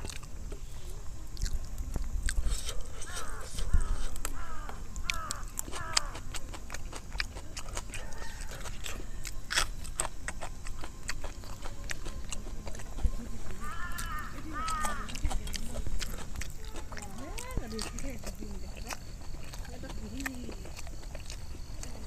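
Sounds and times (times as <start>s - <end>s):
close chewing with lip-smacking: 0.0s - 22.0s.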